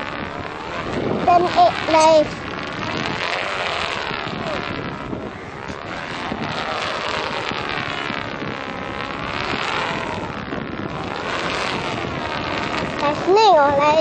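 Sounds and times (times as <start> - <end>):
stunt kite buzzing: 0.0 - 14.0
wind on microphone: 0.0 - 14.0.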